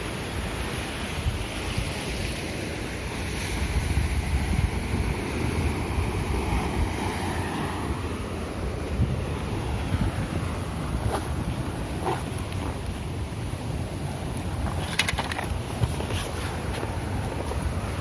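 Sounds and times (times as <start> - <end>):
wind buffeting microphone: 0.1 - 18.0.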